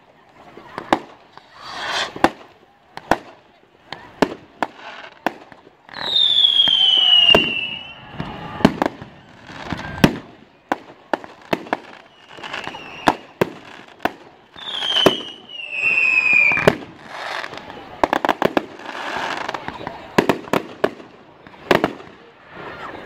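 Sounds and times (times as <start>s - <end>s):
fireworks banging and cracking: 0.3s - 23.0s
whistling firework: 0.6s - 3.3s, 3.9s - 23.0s.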